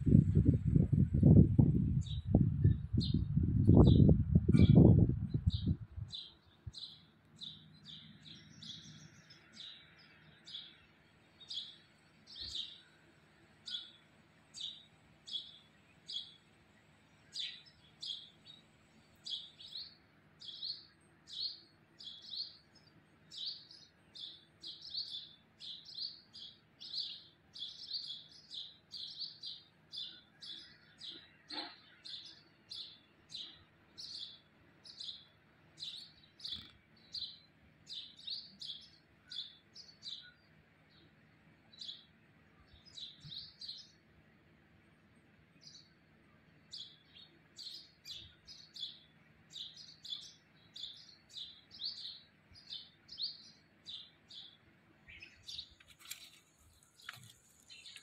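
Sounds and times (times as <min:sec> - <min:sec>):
small bird chirping: 0:00.1 - 0:13.0, 0:13.6 - 0:16.4, 0:17.2 - 0:44.0, 0:46.6 - 0:58.0.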